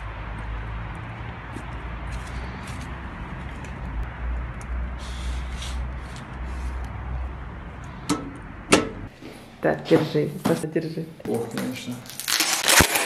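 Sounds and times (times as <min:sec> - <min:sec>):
low street rumble: 0:00.0 - 0:11.2.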